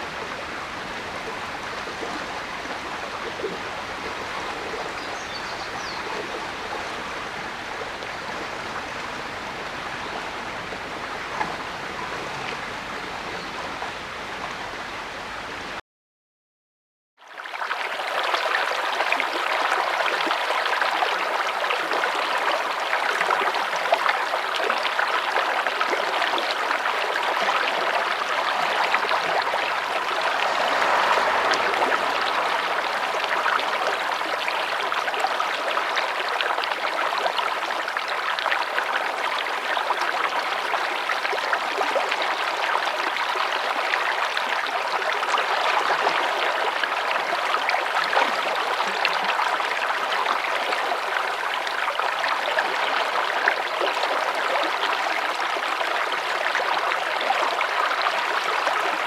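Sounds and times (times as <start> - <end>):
small stream flowing: 0.0 - 15.8, 17.2 - 59.0.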